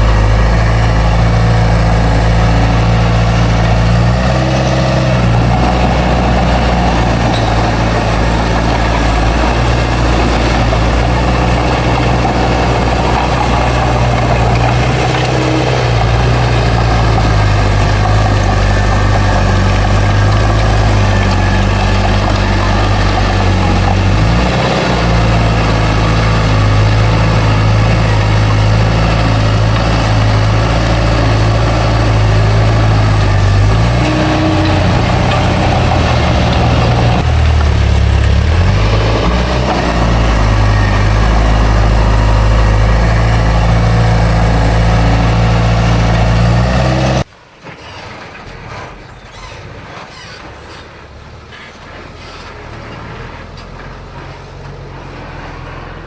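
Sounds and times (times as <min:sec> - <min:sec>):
diesel engine running under load: 0:00.0 - 0:47.4, 0:48.1 - 0:56.0.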